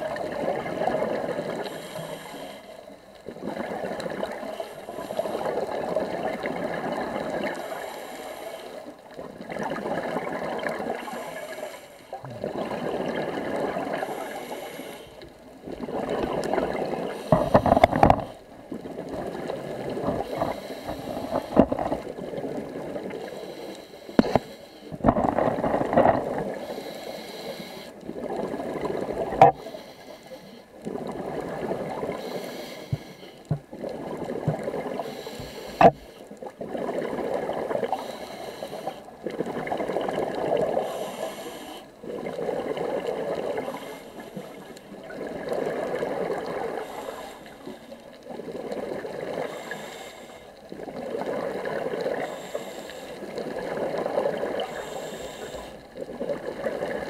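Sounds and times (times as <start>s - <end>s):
exhaled bubbles underwater: 0.0s - 2.4s, 3.2s - 8.2s, 8.8s - 23.4s, 24.1s - 26.8s, 27.9s - 29.7s, 30.8s - 57.0s.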